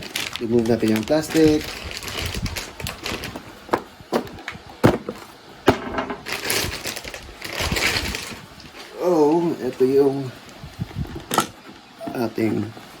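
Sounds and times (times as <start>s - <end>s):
plastic wrapping crinkling: 0.0s - 5.4s, 6.0s - 11.7s.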